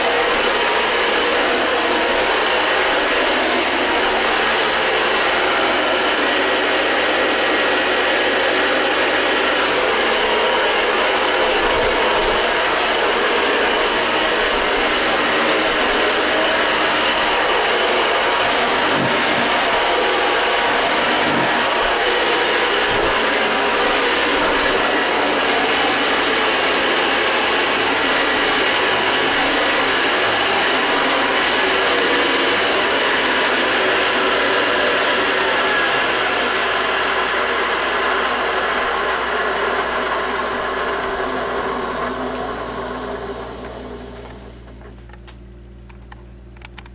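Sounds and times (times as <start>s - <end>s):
upright vacuum cleaner running: 0.0s - 45.4s.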